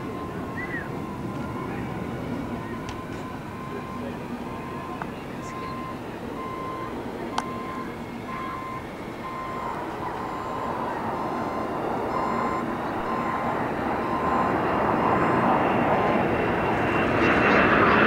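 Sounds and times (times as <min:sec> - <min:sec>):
vehicle backup alarm beeping: 0:00.0 - 0:17.1
aircraft engine rushing: 0:00.0 - 0:18.0.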